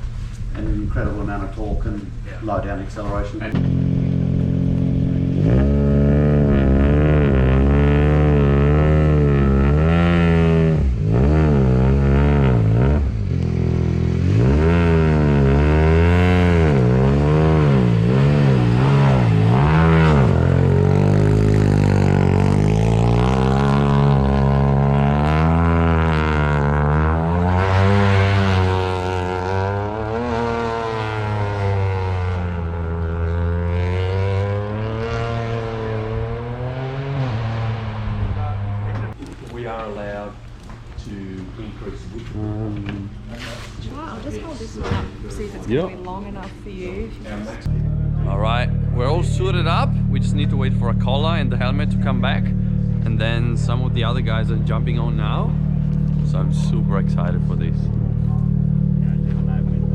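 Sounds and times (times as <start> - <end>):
rally car engine revving: 0.6 - 39.3, 41.4 - 59.9.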